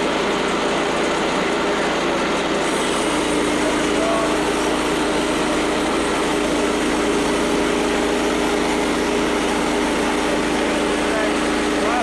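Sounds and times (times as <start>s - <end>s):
small sawmill engine running: 0.0s - 12.0s.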